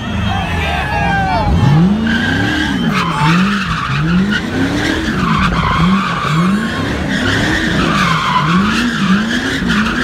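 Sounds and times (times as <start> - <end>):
tyres squealing: 0.0 - 10.0
car engine revving: 1.1 - 10.0.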